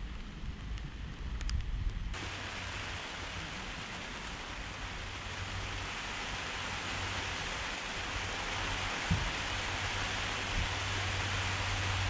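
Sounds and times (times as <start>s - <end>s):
rain on tent fabric: 0.0s - 12.0s.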